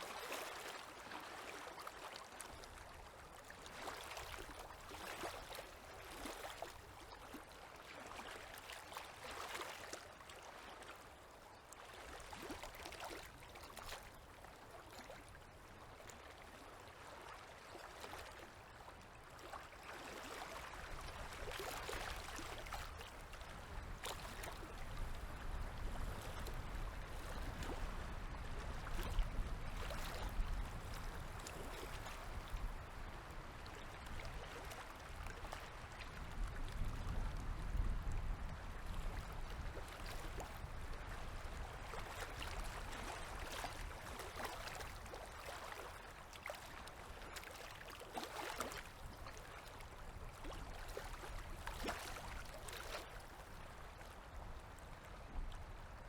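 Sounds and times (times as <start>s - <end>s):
small water splashes: 0.0s - 55.9s
waves lapping against shore: 0.0s - 56.0s.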